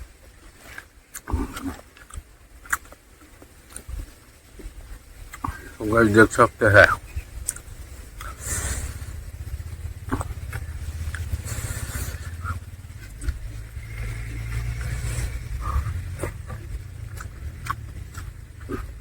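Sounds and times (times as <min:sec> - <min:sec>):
steady low rumble: 0:00.0 - 0:19.0
chewing and lip smacks: 0:00.6 - 0:05.7, 0:07.4 - 0:08.4, 0:09.0 - 0:19.0.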